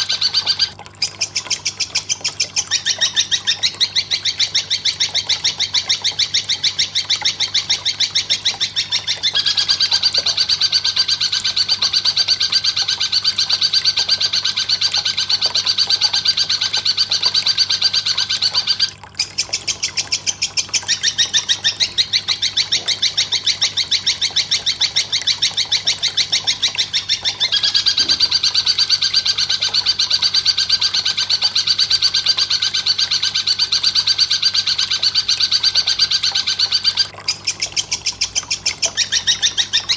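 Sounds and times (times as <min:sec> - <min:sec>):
high-pitched bird chirps: 0:00.0 - 0:39.9.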